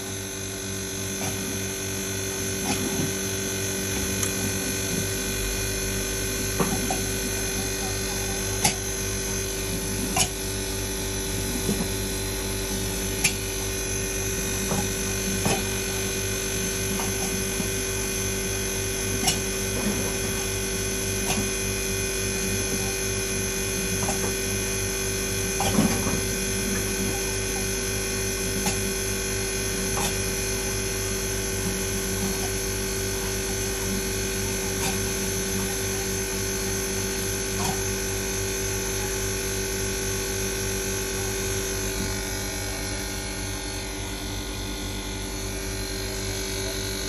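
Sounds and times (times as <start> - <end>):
ice maker humming: 0.0 - 47.0.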